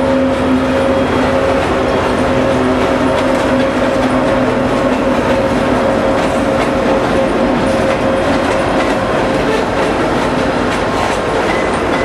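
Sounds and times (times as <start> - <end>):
diesel locomotive engine: 0.0 - 12.0
train wheels clicking over rail joints: 0.0 - 12.0.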